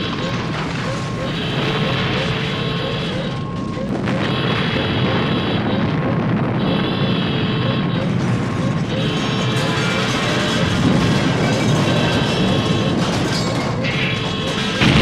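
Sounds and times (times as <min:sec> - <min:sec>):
heavy explosion rumble: 0:00.0 - 0:15.0
high electronic tone: 0:00.0 - 0:15.0.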